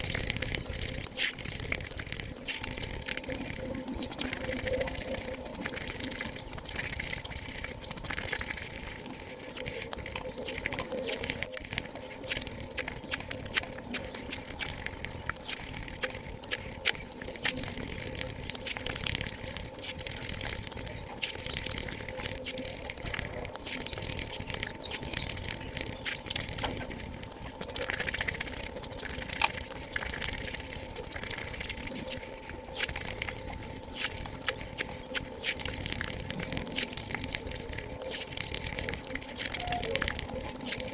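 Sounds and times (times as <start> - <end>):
faint steady hum: 0.0 - 40.9
wet chewing and mouth clicks: 0.0 - 40.9.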